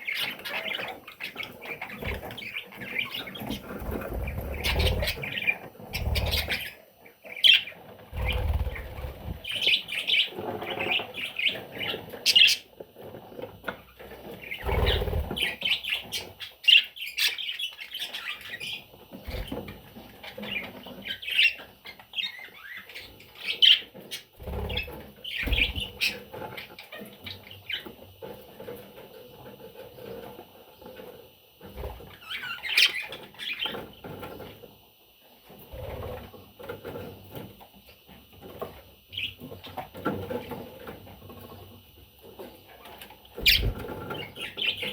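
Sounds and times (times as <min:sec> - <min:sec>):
baby budgerigars chirping: 0:00.0 - 0:28.3, 0:31.8 - 0:34.5, 0:38.4 - 0:41.6, 0:42.3 - 0:44.9.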